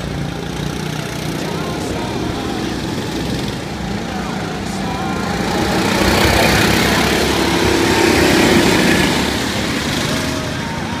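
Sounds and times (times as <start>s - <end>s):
go-kart engines running hard: 0.0s - 11.0s.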